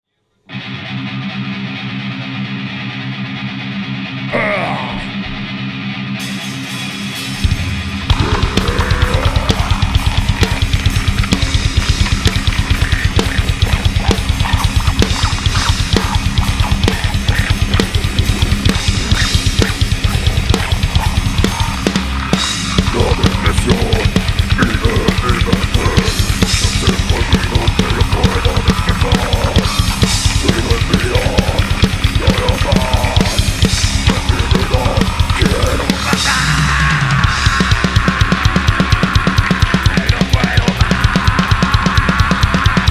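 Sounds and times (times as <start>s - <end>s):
heavy metal band playing live: 0.5s - 42.9s
fast bass-drum beat with snare: 6.2s - 42.9s.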